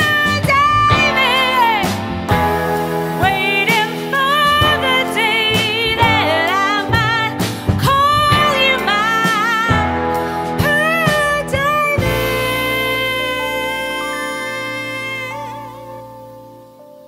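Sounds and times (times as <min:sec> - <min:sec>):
woman singing with vibrato: 0:00.0 - 0:16.2
drums: 0:00.0 - 0:17.0
electric guitar: 0:00.0 - 0:17.0
keyboard: 0:00.0 - 0:17.0
upright bass: 0:00.0 - 0:17.0.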